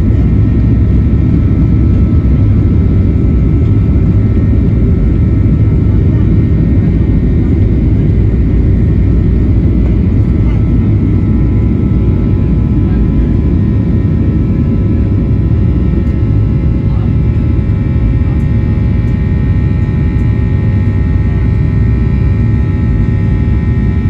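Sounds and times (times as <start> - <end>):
jet engine roar in cabin: 0.0 - 24.0.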